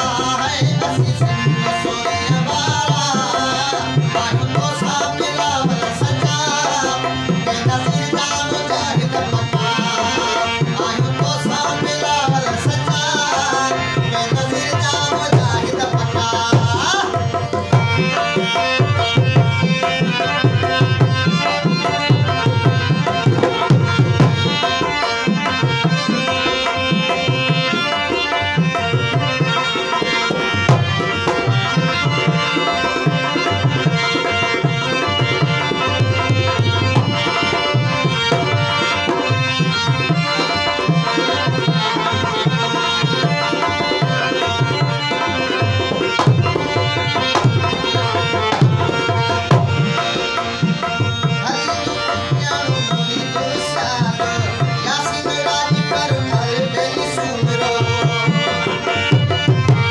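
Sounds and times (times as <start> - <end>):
harmoniums playing: 0.0 - 59.9
man singing: 0.0 - 59.9.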